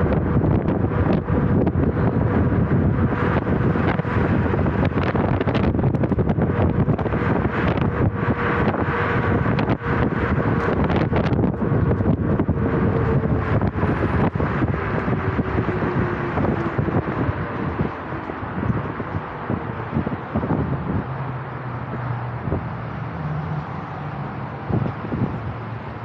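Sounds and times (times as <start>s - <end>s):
faint vehicle hum: 0.0s - 26.0s
wind buffeting microphone: 0.0s - 26.0s.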